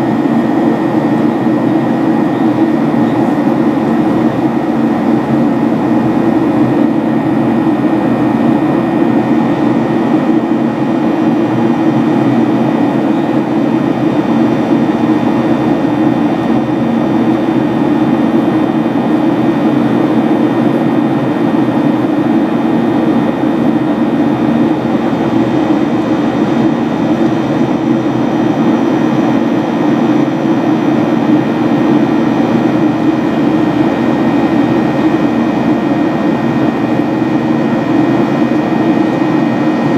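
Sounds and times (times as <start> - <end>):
jet engine drone: 0.0 - 39.9.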